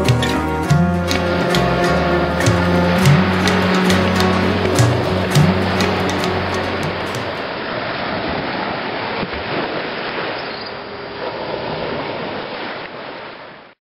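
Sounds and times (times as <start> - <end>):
ocean surf on beach: 0.0 - 13.8.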